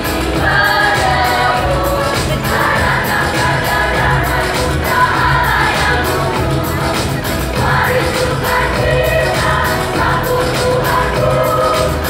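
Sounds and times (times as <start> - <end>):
choir singing with accompaniment: 0.0 - 12.0.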